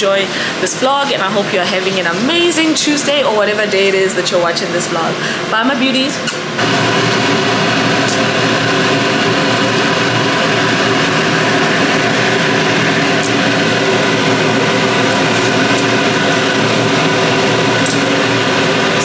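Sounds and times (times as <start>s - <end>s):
machine whirring with steady tones: 0.0s - 19.0s.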